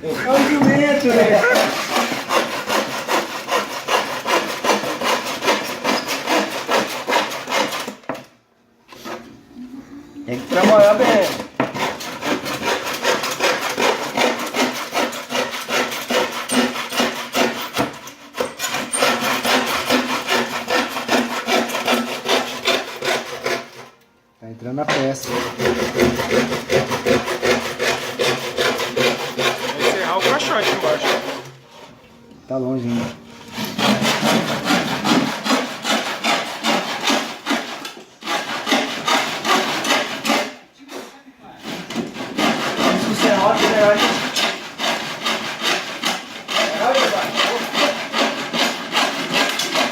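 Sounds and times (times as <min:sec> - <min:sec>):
handsaw cutting wood: 0:00.0 - 0:08.3, 0:10.3 - 0:24.0, 0:25.1 - 0:31.8, 0:32.8 - 0:49.9.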